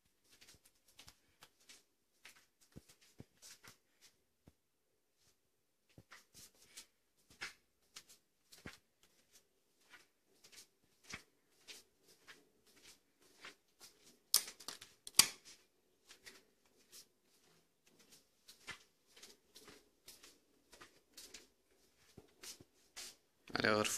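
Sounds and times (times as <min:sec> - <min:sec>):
footsteps on hard floor: 0:00.0 - 0:04.6, 0:05.2 - 0:23.4.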